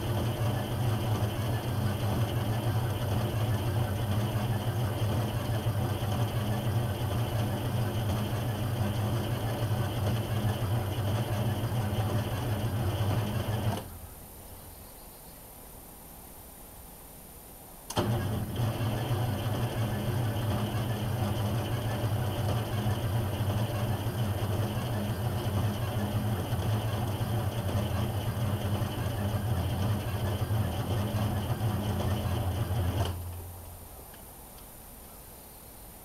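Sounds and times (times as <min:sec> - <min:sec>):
diesel engine running with deep hum: 0:00.0 - 0:14.1, 0:18.0 - 0:33.9.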